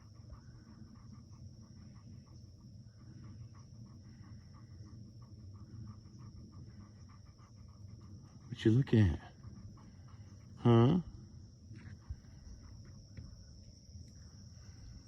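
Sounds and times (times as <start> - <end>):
dog panting softly: 0.0 - 15.0.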